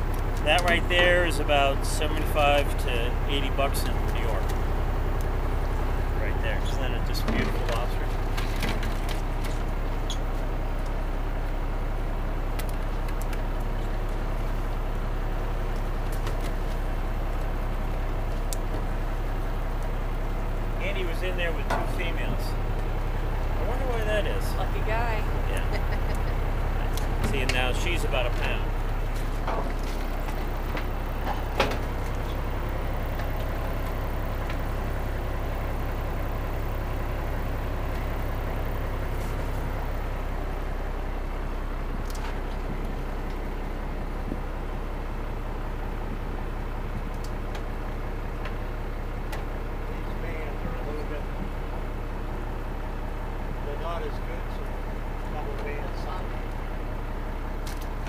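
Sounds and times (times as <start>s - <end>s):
boat engine rumbling: 0.0s - 58.0s.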